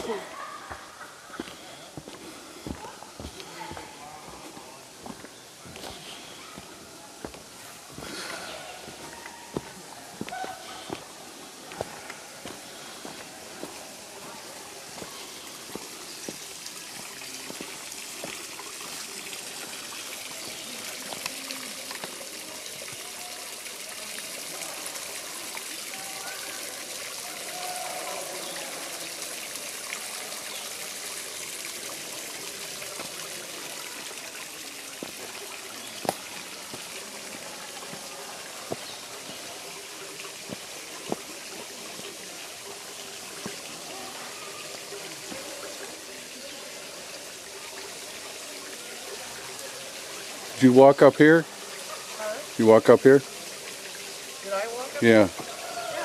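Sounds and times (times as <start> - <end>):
stream trickling over rock ledges: 0.0 - 56.0.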